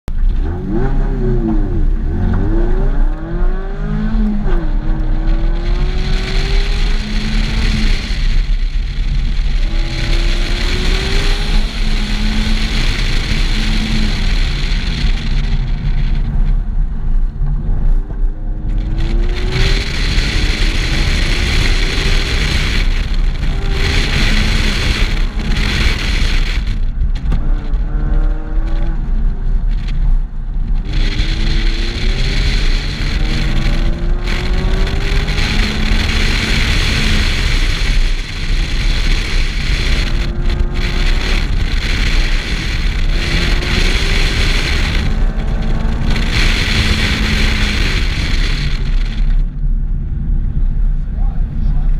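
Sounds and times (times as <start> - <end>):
wind and road noise: 0.0 - 51.9
car engine revving: 0.1 - 51.9.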